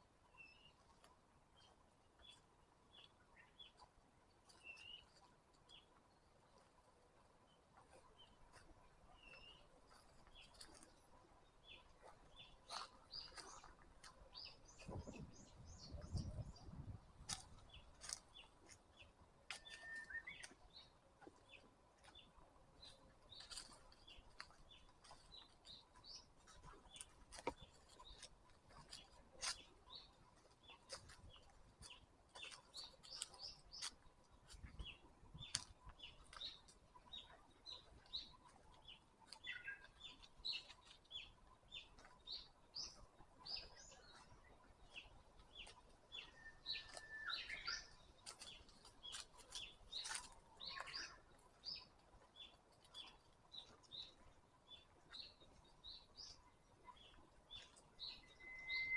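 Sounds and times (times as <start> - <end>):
forest songbirds chirping: 0.2 - 58.9.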